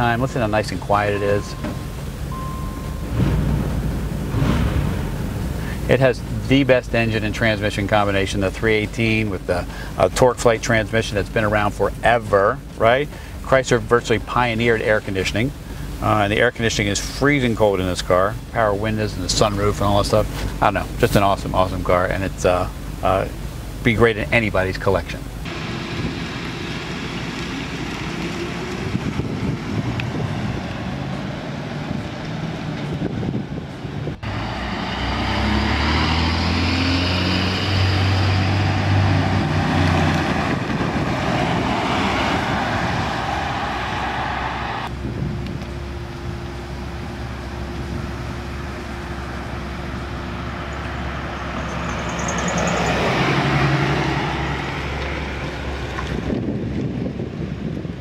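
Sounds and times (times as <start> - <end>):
car engine rumbling: 0.0 - 58.0
vehicles driving past: 0.0 - 58.0.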